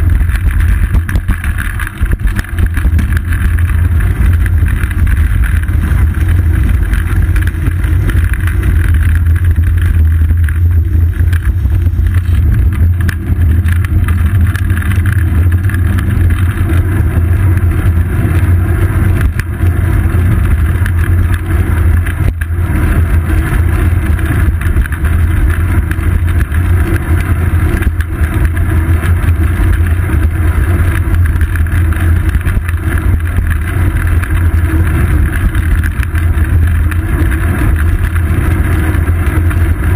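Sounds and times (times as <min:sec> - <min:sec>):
road vibration: 0:00.0 - 0:39.9
wind rumble: 0:00.0 - 0:39.9.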